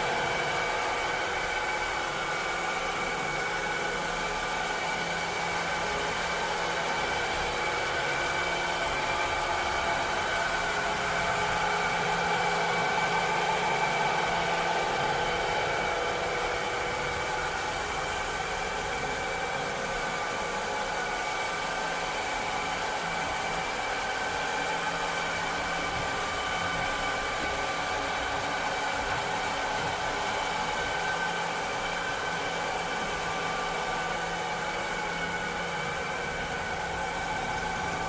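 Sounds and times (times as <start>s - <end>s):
robot vacuum cleaner running: 0.0s - 38.0s.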